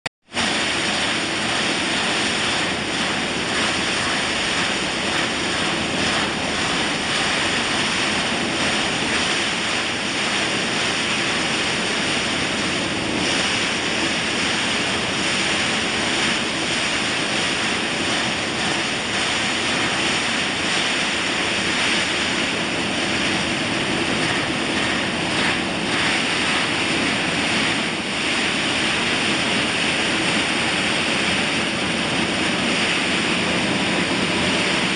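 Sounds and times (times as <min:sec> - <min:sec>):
seed hulling machines rushing: 0:00.4 - 0:34.9.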